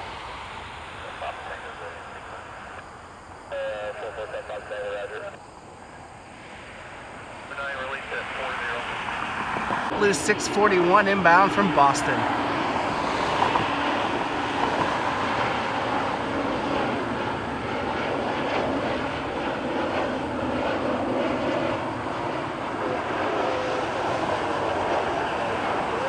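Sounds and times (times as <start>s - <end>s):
jet airliner engine noise: 0.0s - 26.0s.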